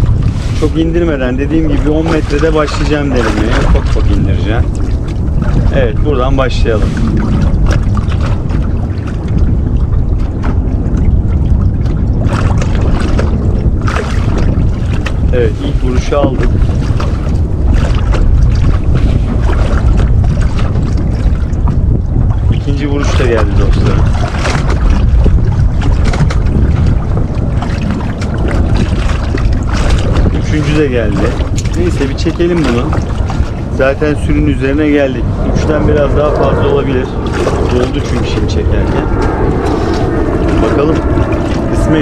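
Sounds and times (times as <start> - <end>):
water slapping against hull: 0.0 - 42.0
wind rumble on microphone: 0.0 - 42.0.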